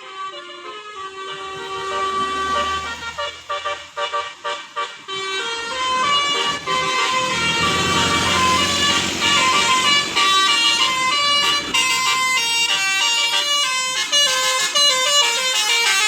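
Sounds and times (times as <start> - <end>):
bus engine running low: 0.0 - 16.0
bus musical horn playing a tune: 0.0 - 16.0.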